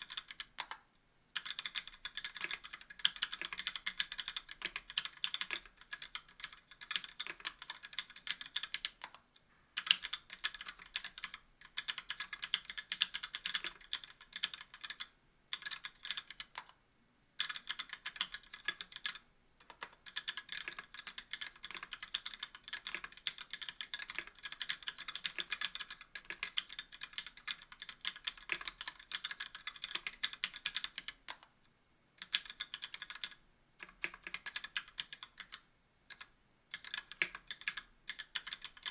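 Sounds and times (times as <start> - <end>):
keyboard typing: 0.0 - 0.8, 1.4 - 9.2, 9.8 - 16.8, 17.4 - 31.5, 32.2 - 38.9.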